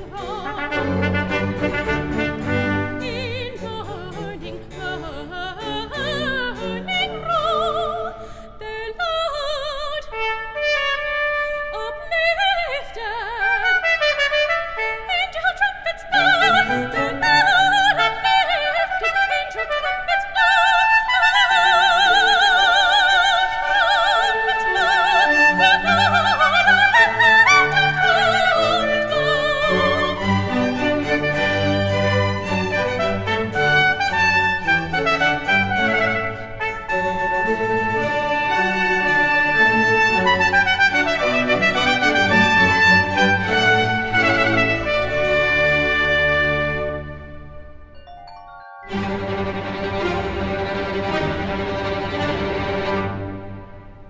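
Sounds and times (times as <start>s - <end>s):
baroque orchestra with trumpet: 0.0s - 8.0s, 9.7s - 48.0s, 48.9s - 54.0s
soprano singing operatic line: 0.0s - 47.2s.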